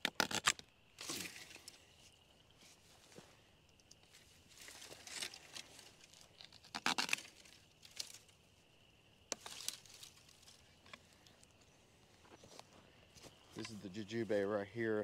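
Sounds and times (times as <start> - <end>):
rustling dry grass and brush: 0.9 - 14.6.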